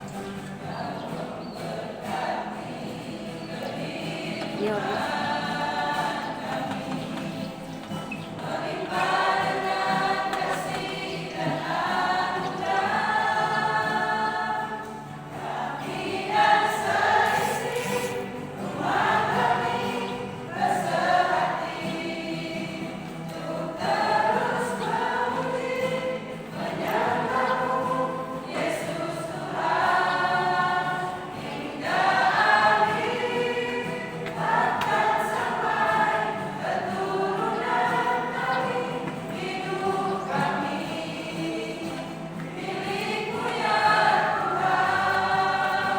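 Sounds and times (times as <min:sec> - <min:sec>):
church choir singing: 0:00.0 - 0:45.9.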